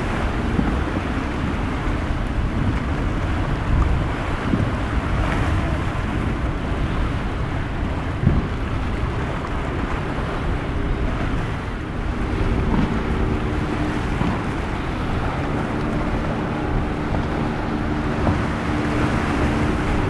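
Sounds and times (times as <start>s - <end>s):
boat engines droning: 0.0s - 20.0s
surf breaking: 0.0s - 20.0s
wind buffeting microphone: 0.0s - 20.0s.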